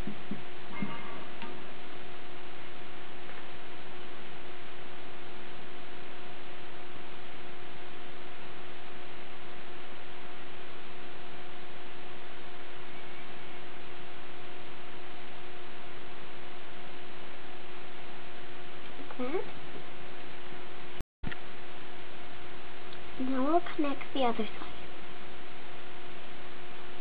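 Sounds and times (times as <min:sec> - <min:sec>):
faint higher hum: 0:00.0 - 0:27.0
low hum: 0:00.0 - 0:27.0.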